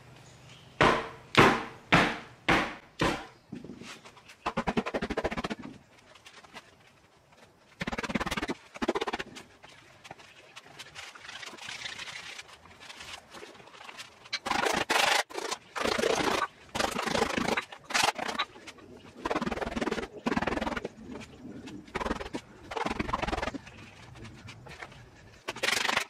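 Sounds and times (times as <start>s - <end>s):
leather glove rubbing and rustling: 3.4s - 25.9s.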